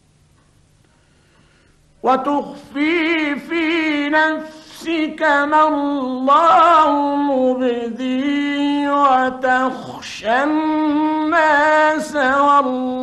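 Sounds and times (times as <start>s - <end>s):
man reciting melodically: 2.0s - 13.0s.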